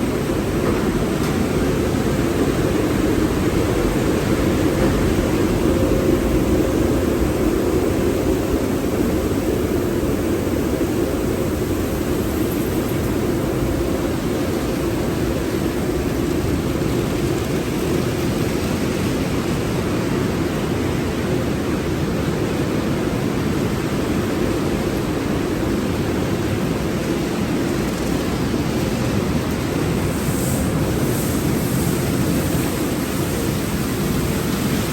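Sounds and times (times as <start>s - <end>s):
blower dryers rushing air: 0.0s - 34.9s.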